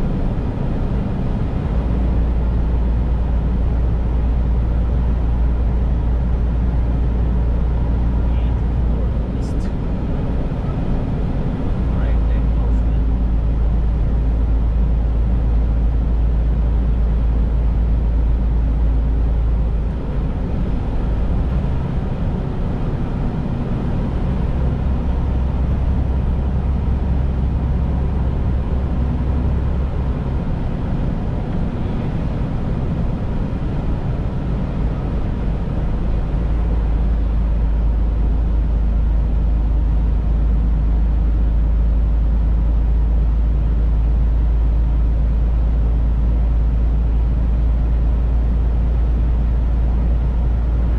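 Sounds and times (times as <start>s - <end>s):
road noise: 0.0s - 50.9s
truck engine drone: 0.0s - 50.9s.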